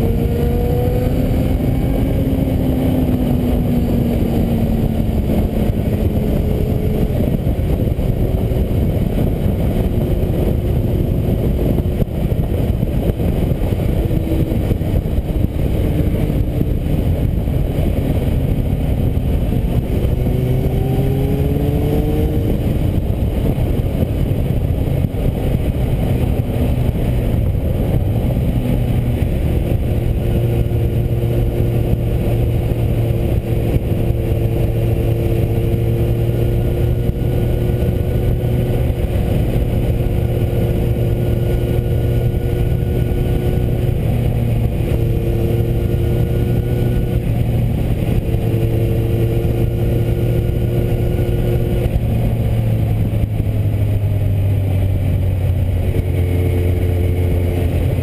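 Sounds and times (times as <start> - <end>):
motorcycle engine: 0.0 - 58.0
wind noise: 0.0 - 58.0.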